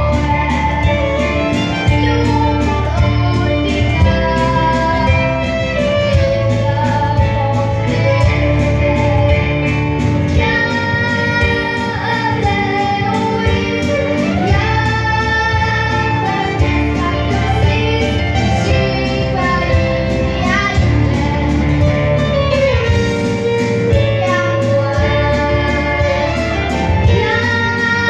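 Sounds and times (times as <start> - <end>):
drums keeping a steady beat: 0.0 - 28.0
girl singing into a microphone: 0.0 - 28.0
piano: 0.0 - 28.0.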